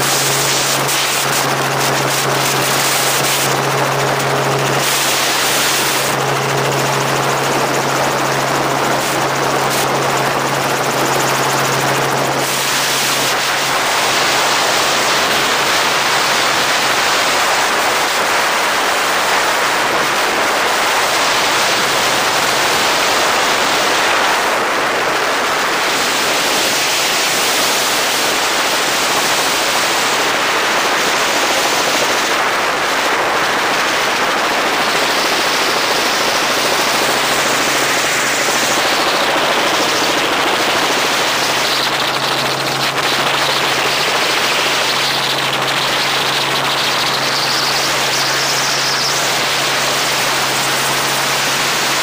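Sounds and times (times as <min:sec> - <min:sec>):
helicopter rotor and engine: 0:00.0 - 0:52.0
wind rush on microphone: 0:00.0 - 0:52.0.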